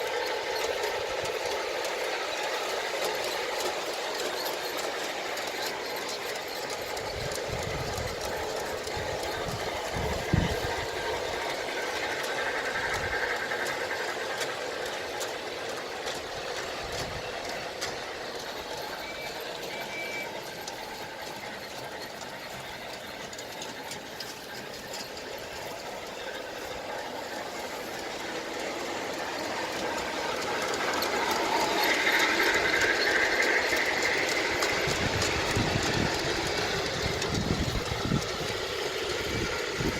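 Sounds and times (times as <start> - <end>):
model train running on rails: 0.0 - 39.9.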